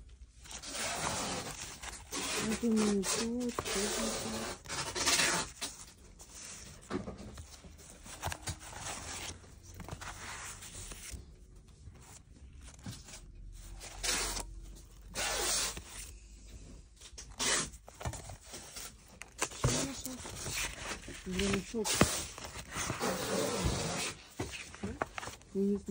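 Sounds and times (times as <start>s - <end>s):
paper sleeves rustling and scraping: 0.3s - 25.9s.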